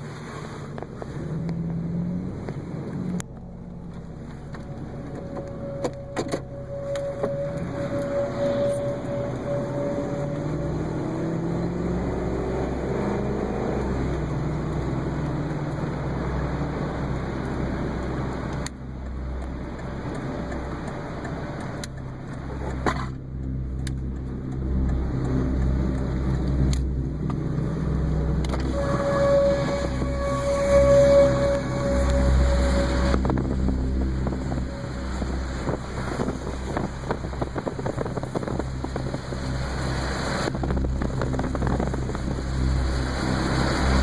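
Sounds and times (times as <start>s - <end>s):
car engine accelerating: 0.0s - 44.0s
low road rumble: 0.0s - 44.0s.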